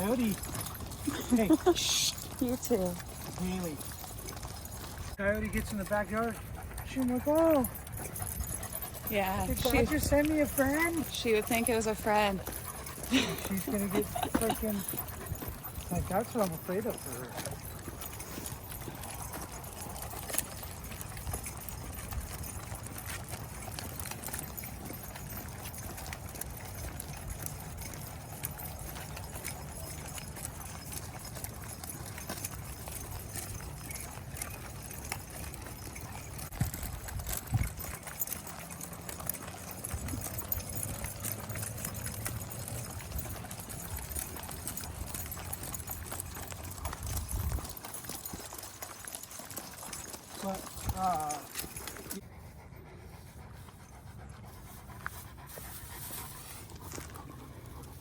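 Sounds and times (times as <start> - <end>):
footsteps: 0.0 - 58.0.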